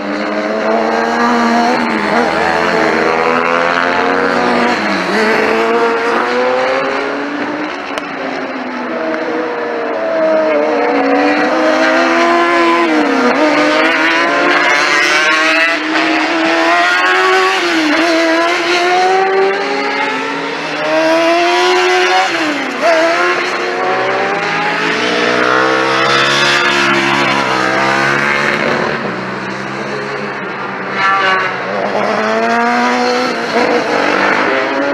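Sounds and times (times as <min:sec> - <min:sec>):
motorbike engines revving: 0:00.0 - 0:34.9.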